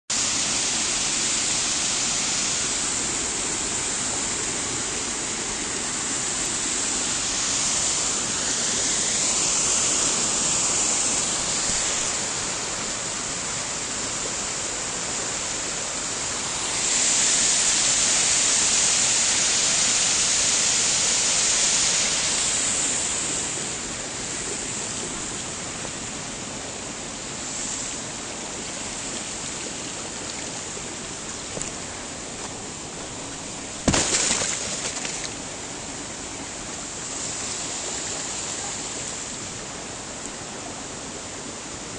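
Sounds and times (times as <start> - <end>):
waterfall rushing onto rocks: 0.1 - 41.9.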